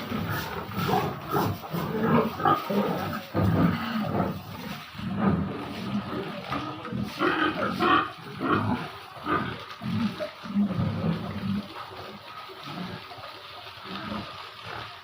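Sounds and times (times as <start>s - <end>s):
pigs grunting: 0.0s - 15.0s.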